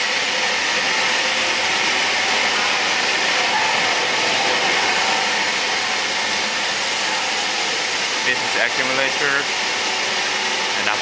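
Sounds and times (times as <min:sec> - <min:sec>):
production line machine hiss: 0:00.0 - 0:11.0.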